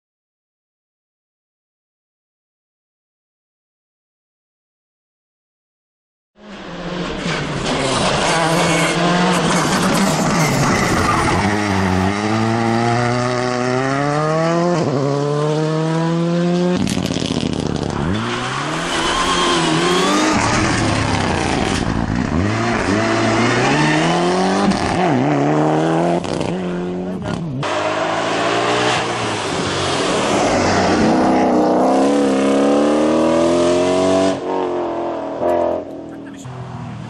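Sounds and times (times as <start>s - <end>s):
racing car engines revving: 6.4s - 37.0s.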